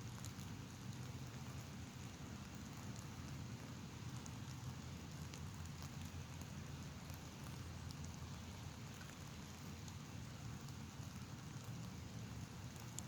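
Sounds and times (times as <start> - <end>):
light rain drops ticking: 0.0 - 13.0.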